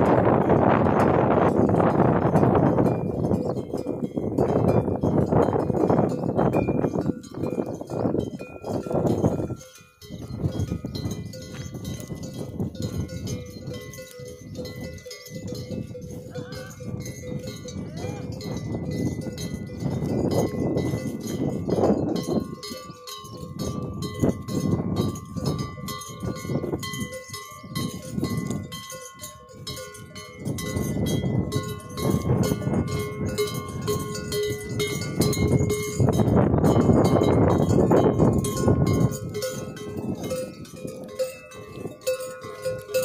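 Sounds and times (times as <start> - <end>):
metal bell clanking: 0.0 - 43.0.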